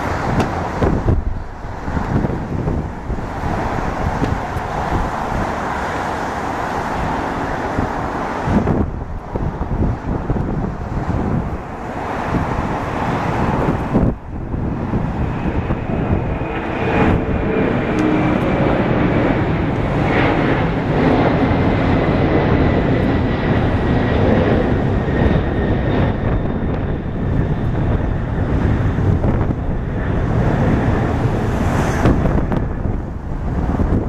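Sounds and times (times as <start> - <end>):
jet engine rumble: 0.0 - 34.0
jet engine whine: 0.0 - 34.0.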